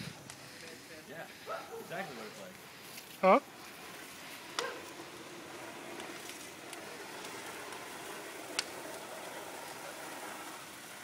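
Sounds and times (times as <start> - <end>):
garden hose spraying water: 0.0 - 11.0.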